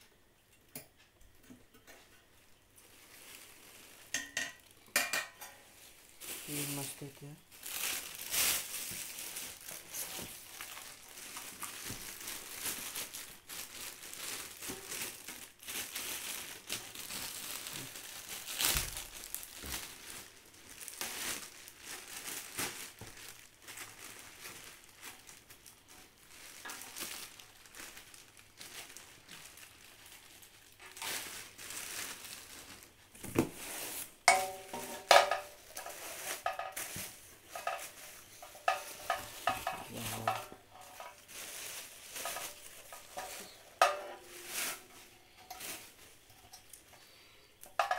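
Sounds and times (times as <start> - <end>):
plastic wrapping crinkling: 1.8 - 47.9.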